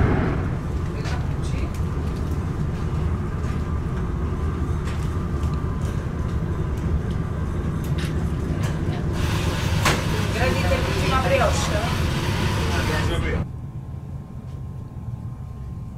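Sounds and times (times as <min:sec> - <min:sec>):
train wheels rumbling on rails: 0:00.0 - 0:13.4.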